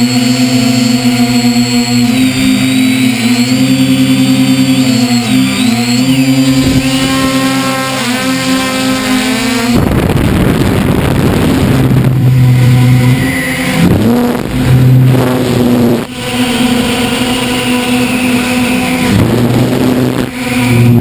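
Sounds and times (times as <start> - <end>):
drone motors whining: 0.0 - 21.0
loud rushing noise: 0.0 - 21.0.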